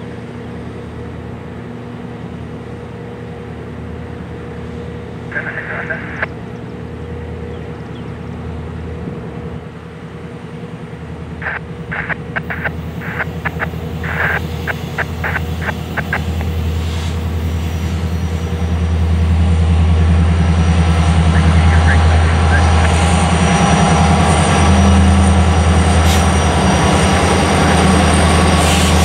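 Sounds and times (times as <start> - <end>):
diesel locomotive engines droning: 0.0 - 29.0.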